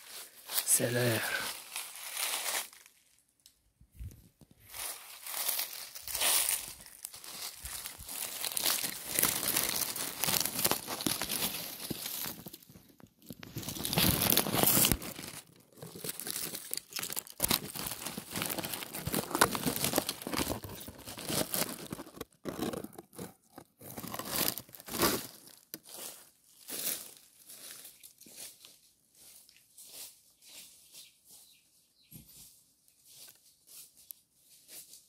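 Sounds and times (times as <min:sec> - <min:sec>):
dry leaves crunching: 0:00.0 - 0:03.2, 0:04.6 - 0:31.5.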